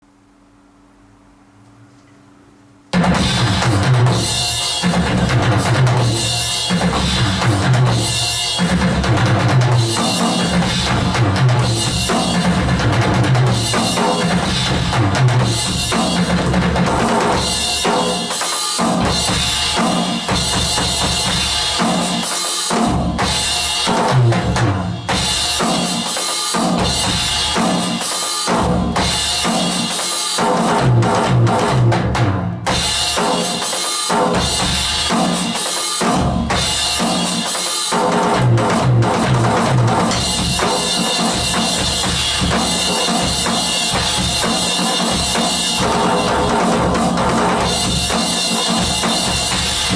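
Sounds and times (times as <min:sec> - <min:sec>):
electronic drum kit beat: 0:02.9 - 0:49.9.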